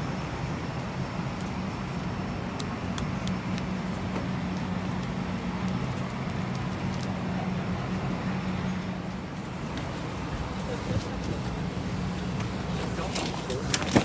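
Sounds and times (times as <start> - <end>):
cabin air-conditioning hiss and hum: 0.0 - 14.0.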